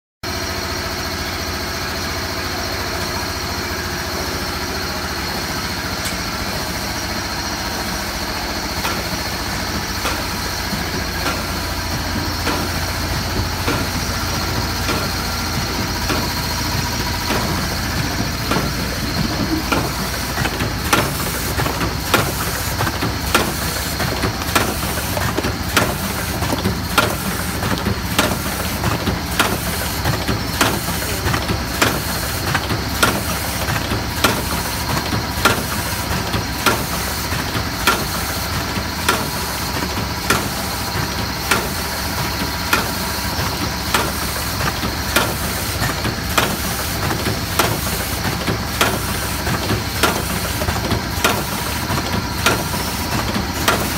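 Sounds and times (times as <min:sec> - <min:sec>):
machine humming with high whine: 0:00.3 - 0:53.9
machine clacking: 0:06.0 - 0:53.9.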